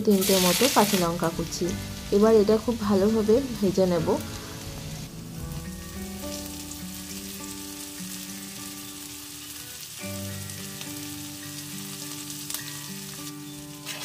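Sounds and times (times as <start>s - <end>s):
garlic sizzling in oil: 0.0s - 14.0s
soft background music: 0.0s - 14.0s.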